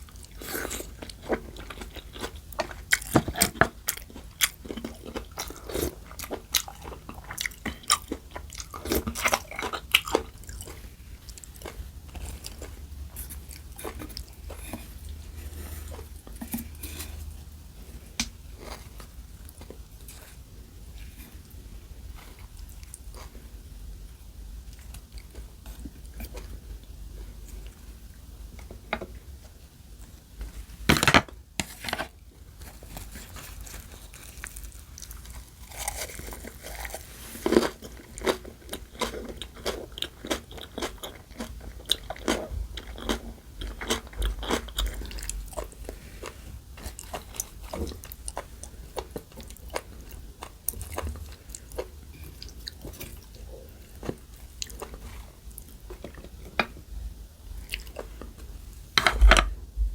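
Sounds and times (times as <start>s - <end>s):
close chewing and crunching: 0.0s - 23.7s, 24.6s - 29.4s, 30.0s - 59.4s.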